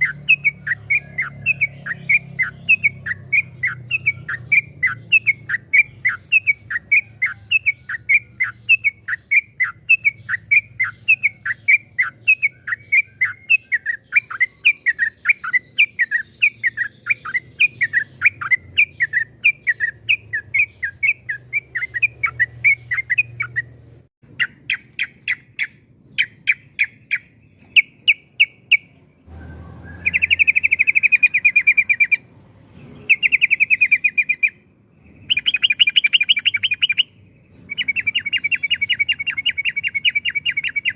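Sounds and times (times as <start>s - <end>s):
bird chattering trills: 0.0s - 29.2s, 29.9s - 40.9s
bird singing whistled notes: 0.0s - 40.9s.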